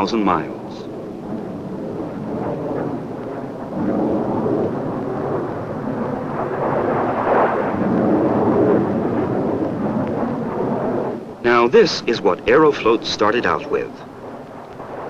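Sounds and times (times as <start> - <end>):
jet airliner roar passing by: 0.0 - 15.0.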